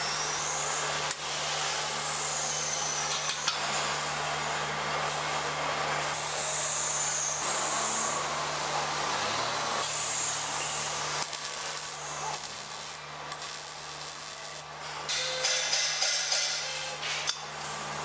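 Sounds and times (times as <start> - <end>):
welding arc crackle: 0.0 - 18.0.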